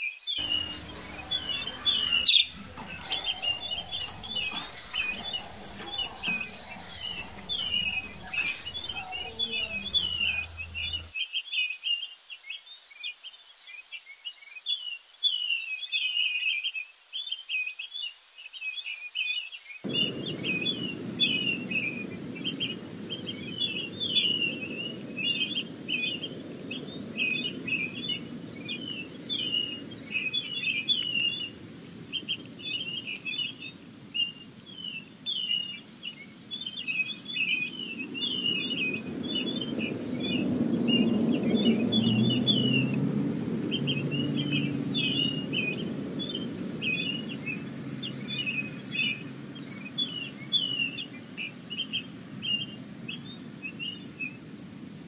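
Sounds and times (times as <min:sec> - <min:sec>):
low steady background noise: 0:00.4 - 0:11.1, 0:19.9 - 0:55.0
small birds chirping: 0:00.4 - 0:11.1, 0:19.8 - 0:55.0.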